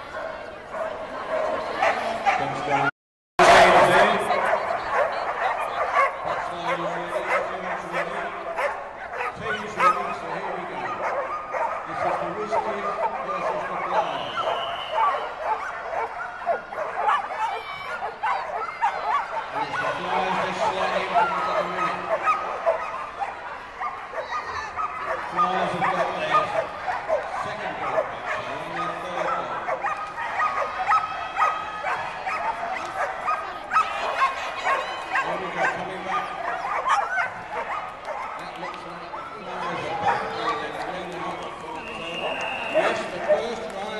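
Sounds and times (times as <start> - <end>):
hall hubbub: 0.0 - 43.9
dogs barking and yipping: 0.1 - 2.6, 3.6 - 41.3.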